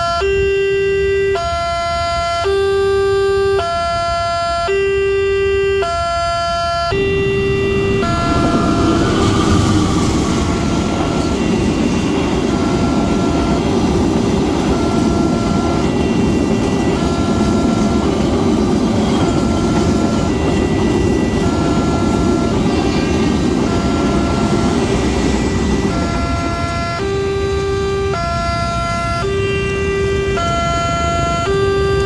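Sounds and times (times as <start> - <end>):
two-tone crossing alarm: 0.0 - 32.0
train coaches rumbling and rattling: 6.3 - 32.0.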